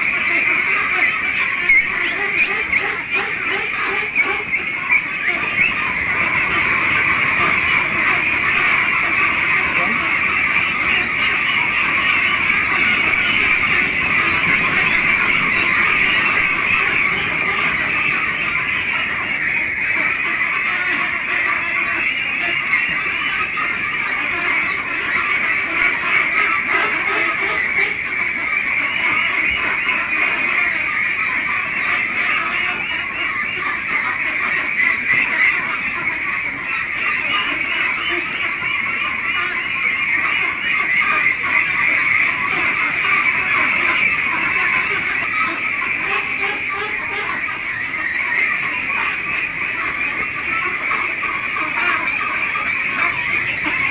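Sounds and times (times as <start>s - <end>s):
ducks quacking: 0.0s - 53.9s.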